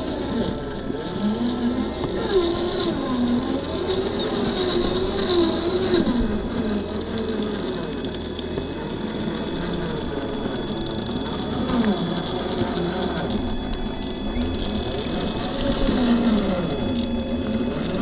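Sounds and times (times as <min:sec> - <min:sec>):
toy car electric motor whining: 0:00.0 - 0:18.0.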